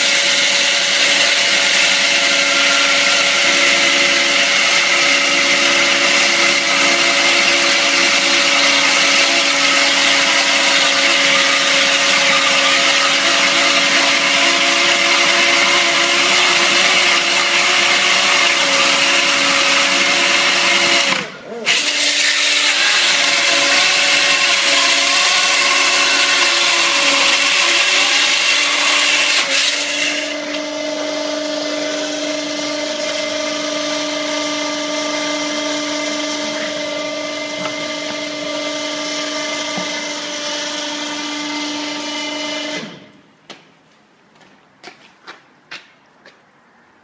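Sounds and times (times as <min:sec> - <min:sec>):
chainsaw grinding concrete: 0:00.0 - 0:43.1.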